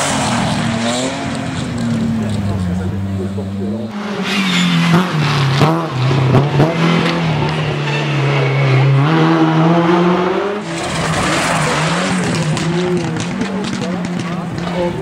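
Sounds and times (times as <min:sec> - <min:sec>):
rally car engines revving: 0:00.0 - 0:15.0.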